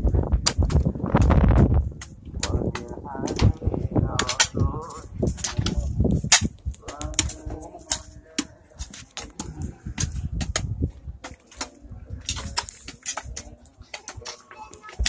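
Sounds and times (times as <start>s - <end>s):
hoes striking and scraping earth: 0.2s - 15.0s
voices talking quietly: 1.2s - 15.0s.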